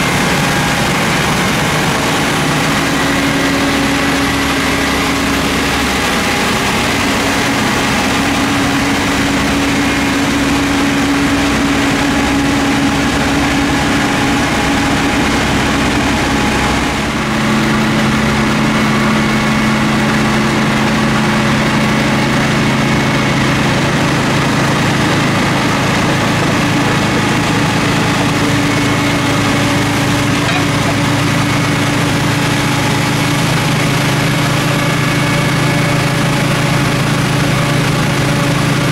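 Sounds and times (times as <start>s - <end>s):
rotary snow blower throwing snow: 0.0s - 38.9s
work train engine running: 0.0s - 38.9s.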